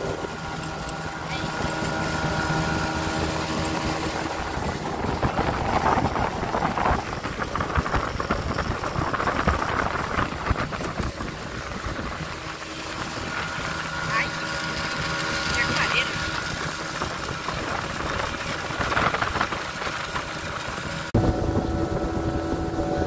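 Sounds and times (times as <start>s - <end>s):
outboard motor running: 0.0s - 23.0s
rushing water and spray: 0.0s - 23.0s
wind on microphone: 0.0s - 23.0s.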